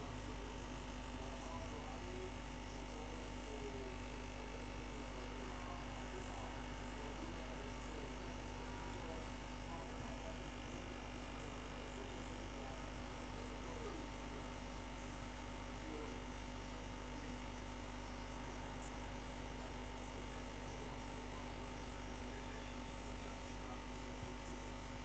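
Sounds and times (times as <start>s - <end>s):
aquarium filter pump hum: 0.0s - 25.0s.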